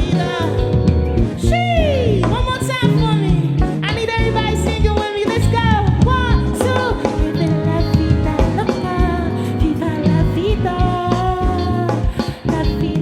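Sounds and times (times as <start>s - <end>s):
live band playing: 0.0s - 13.0s
woman singing: 0.0s - 13.0s.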